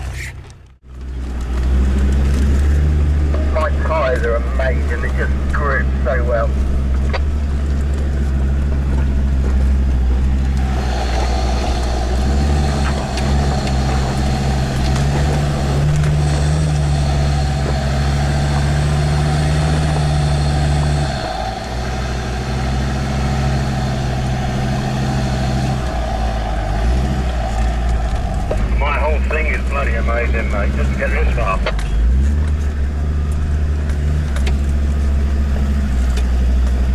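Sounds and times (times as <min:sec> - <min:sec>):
diesel engine running under load: 0:00.0 - 0:36.9.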